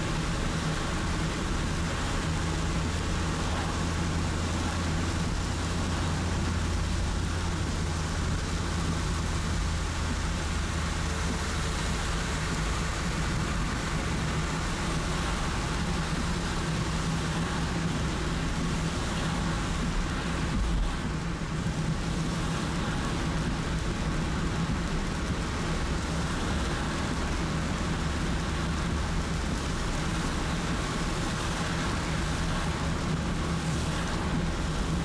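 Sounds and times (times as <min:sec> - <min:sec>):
car engine hum: 0:00.0 - 0:35.0
heavy rain: 0:00.0 - 0:35.0
tyre hiss on wet road: 0:00.0 - 0:35.0.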